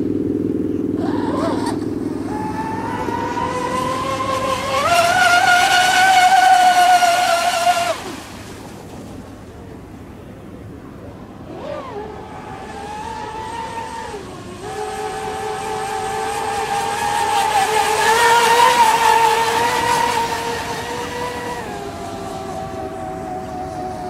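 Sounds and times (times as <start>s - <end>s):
model speedboat motor whine: 0.0s - 24.0s.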